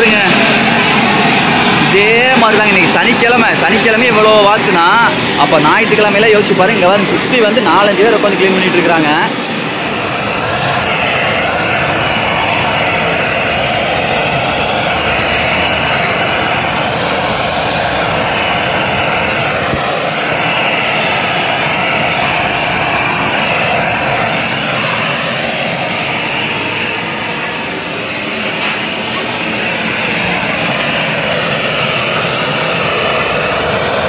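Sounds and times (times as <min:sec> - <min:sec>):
blowtorch flame rushing: 0:00.0 - 0:34.0.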